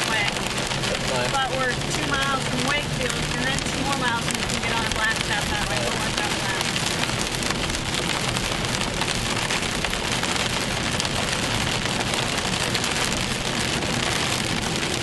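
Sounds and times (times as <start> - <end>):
heavy rain on car: 0.0 - 15.0.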